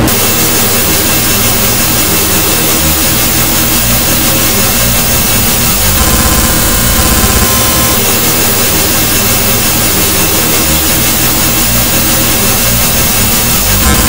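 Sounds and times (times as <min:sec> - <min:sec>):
distorted electronic music: 0:00.0 - 0:14.0
steady high tones: 0:00.0 - 0:14.0.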